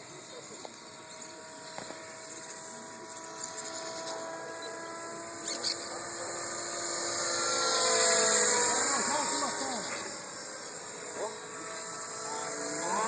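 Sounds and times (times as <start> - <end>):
model helicopter rotor whine: 0.0 - 13.0.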